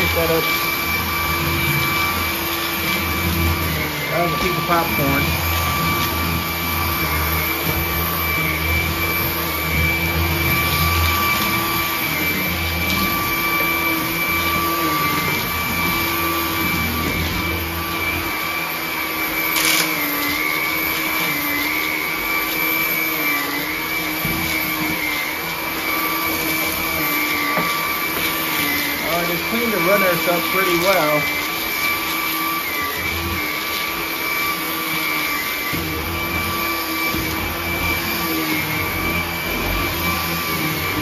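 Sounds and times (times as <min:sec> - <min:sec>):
stick vacuum whining: 0:00.0 - 0:41.0.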